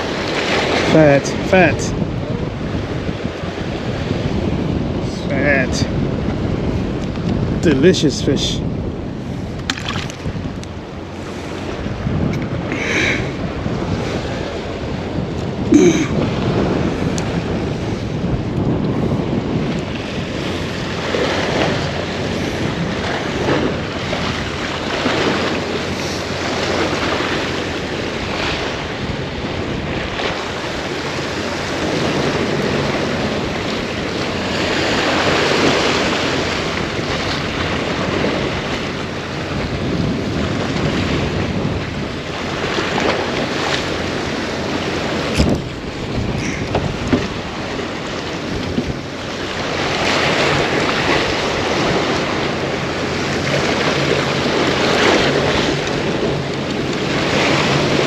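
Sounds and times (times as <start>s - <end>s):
surf washing on beach: 0.0s - 58.0s
wind buffeting microphone: 0.0s - 58.0s.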